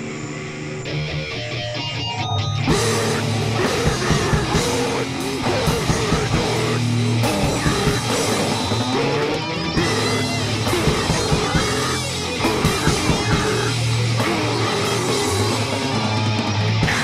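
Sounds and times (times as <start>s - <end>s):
held distorted guitar notes: 0.0s - 17.0s
live band playing heavy music: 0.8s - 17.0s.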